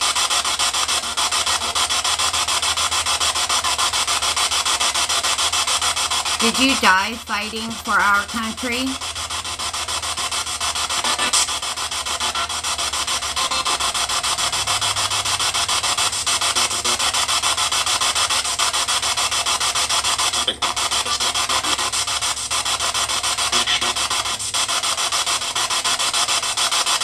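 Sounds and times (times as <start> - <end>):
radio static sweeping stations: 0.0 - 27.0.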